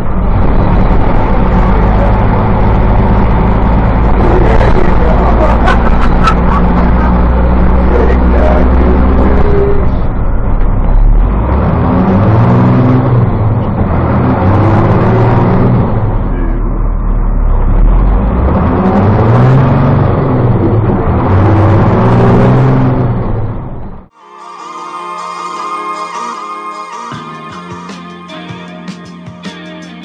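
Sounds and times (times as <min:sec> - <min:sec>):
diesel bus engine revving: 0:00.0 - 0:24.2.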